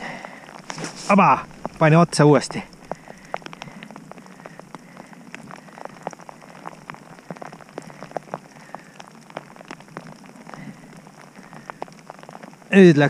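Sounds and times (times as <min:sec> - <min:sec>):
rain ticking close by: 0:00.0 - 0:13.0
soft hiss: 0:00.0 - 0:13.0.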